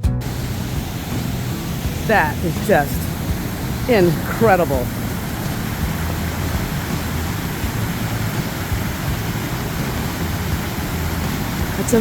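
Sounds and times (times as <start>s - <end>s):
waterfall rushing: 0.2s - 12.0s.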